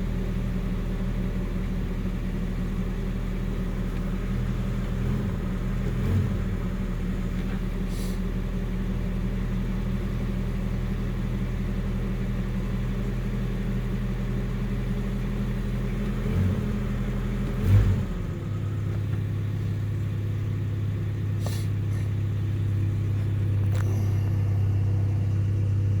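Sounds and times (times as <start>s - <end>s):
pickup engine idling: 0.0s - 26.0s.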